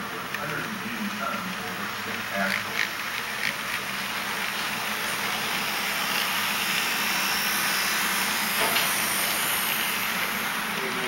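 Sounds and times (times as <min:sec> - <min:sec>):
model train motors whirring: 0:00.0 - 0:11.0.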